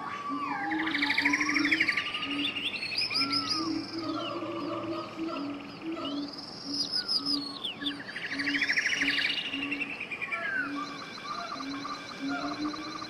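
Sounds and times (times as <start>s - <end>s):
birds singing whistles and trills: 0.0s - 13.0s.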